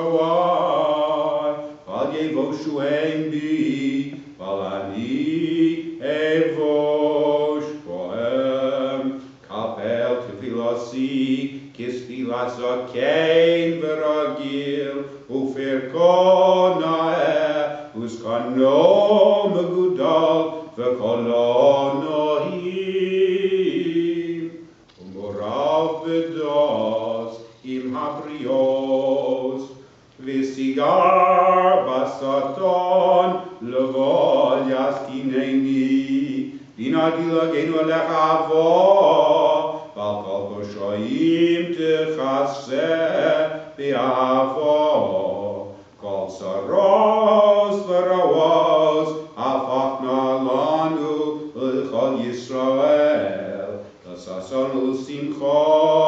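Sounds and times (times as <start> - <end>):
man singing solo chant: 0.0 - 56.0.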